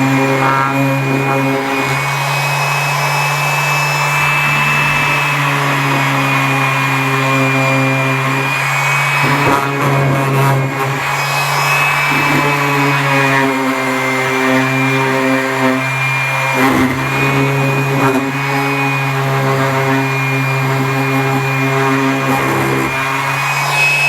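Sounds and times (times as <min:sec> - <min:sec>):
electric power tool running: 0:00.0 - 0:24.0.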